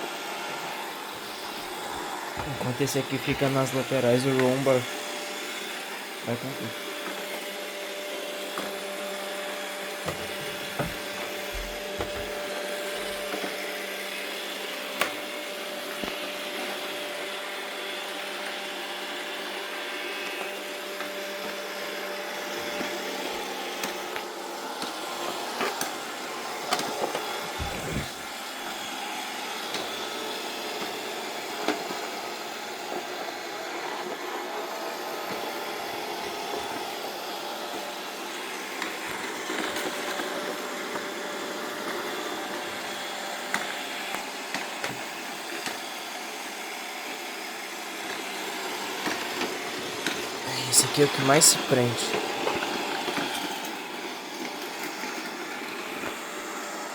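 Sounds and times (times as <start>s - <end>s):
robot vacuum motor and brush whir: 0.0s - 51.4s, 52.0s - 56.9s.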